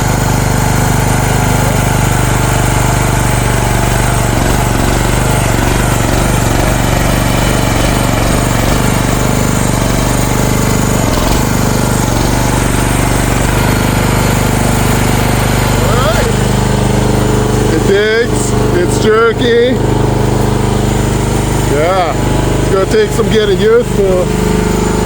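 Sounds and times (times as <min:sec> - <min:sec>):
mini excavator engine running: 0:00.0 - 0:25.0.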